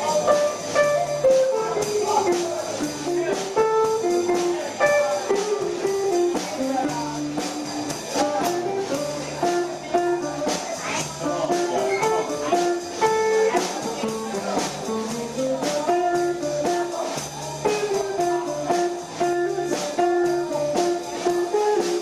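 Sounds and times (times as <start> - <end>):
drums with cymbals: 0.0 - 22.0
melodic jazz solo: 0.0 - 22.0
walking upright bass: 0.0 - 22.0.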